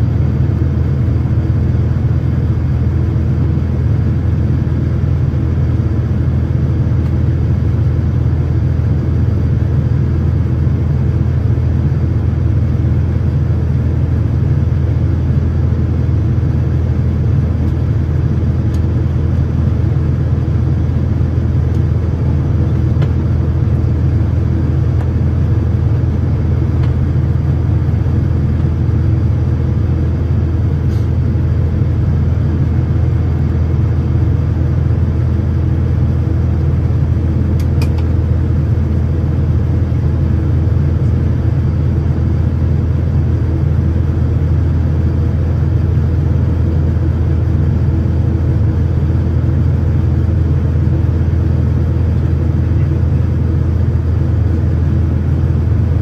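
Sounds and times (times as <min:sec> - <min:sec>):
jet engines heard inside cabin: 0:00.0 - 0:56.0.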